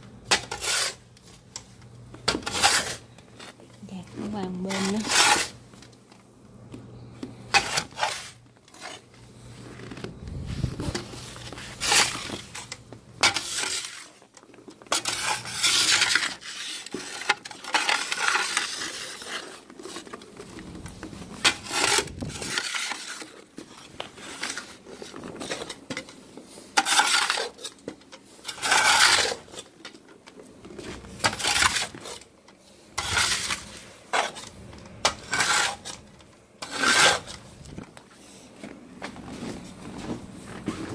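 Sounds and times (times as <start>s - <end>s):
snow shovel scraping deck boards: 0.3s - 1.1s, 2.3s - 3.5s, 4.1s - 5.6s, 7.5s - 9.1s, 9.7s - 14.2s, 14.9s - 27.8s, 28.4s - 29.7s, 30.7s - 40.9s.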